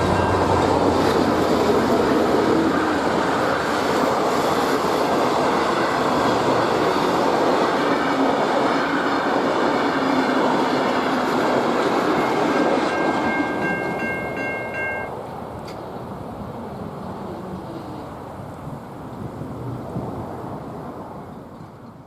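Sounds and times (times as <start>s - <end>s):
diesel train rumbling past: 0.0s - 22.0s.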